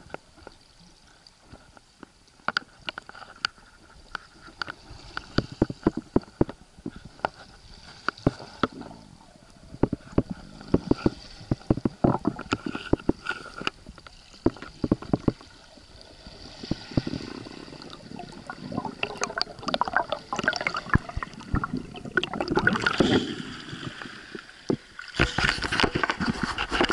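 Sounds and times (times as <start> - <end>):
sharp clicks and knocks underwater: 0.0 - 8.9, 9.7 - 26.9
gurgling and sloshing water: 0.0 - 26.9.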